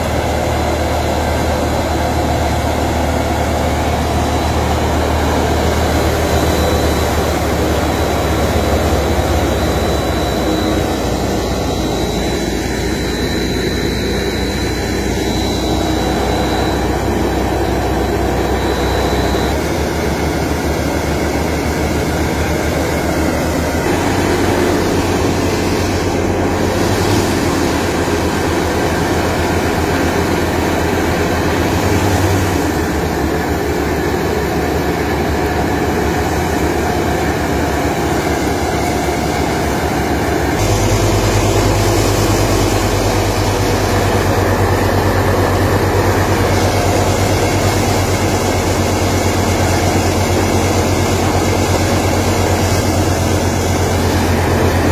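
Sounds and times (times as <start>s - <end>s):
deep hum: 0.0s - 32.8s, 40.3s - 54.9s
threshing machine drone: 0.0s - 54.9s.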